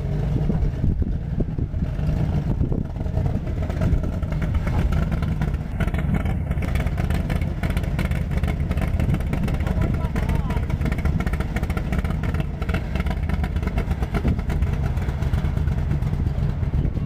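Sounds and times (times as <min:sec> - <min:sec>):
car engine rumbling past: 0:00.0 - 0:17.0.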